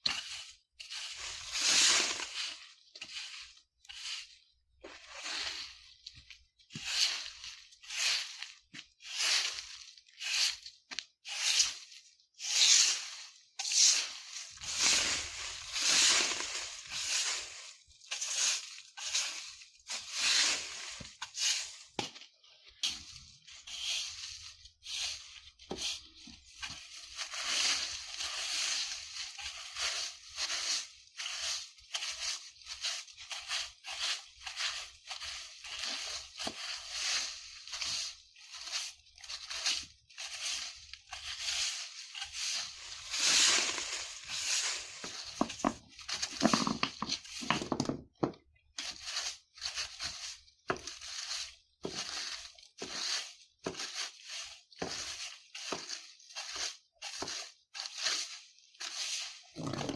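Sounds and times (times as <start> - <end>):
broom sweeping dry leaves: 0.0 - 47.8, 48.6 - 59.9.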